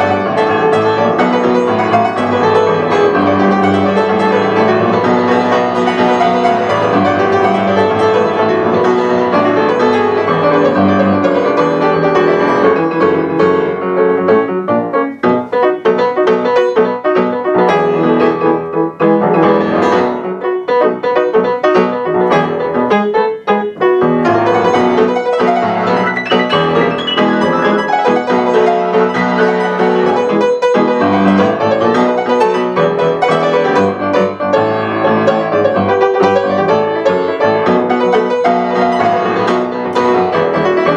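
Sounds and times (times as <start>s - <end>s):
solo grand piano chords: 0.0s - 40.9s.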